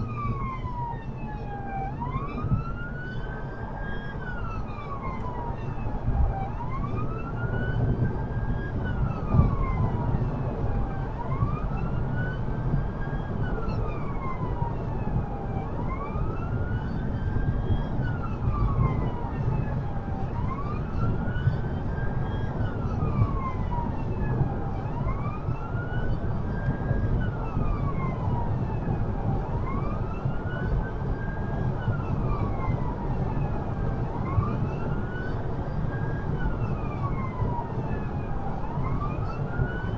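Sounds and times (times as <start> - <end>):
road and engine noise: 0.0 - 39.9
siren wailing: 0.0 - 39.9.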